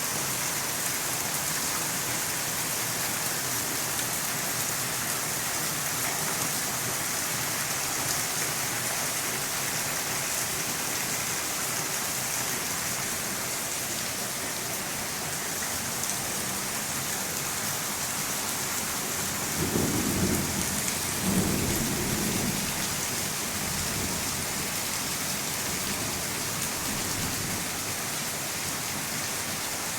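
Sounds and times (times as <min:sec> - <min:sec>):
steady rain falling: 0:00.0 - 0:29.9.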